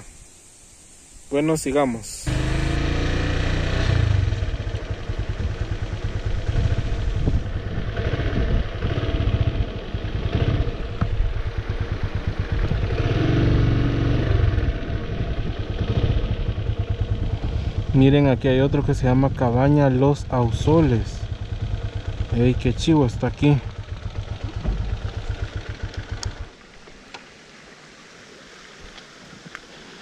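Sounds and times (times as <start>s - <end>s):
motorcycle engine running: 2.1s - 26.7s.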